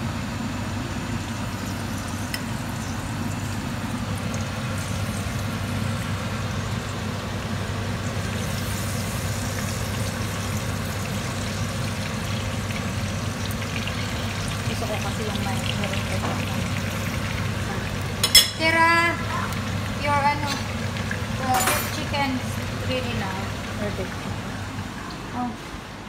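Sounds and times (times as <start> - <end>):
fish sizzling in frying pan: 1.3 - 24.2.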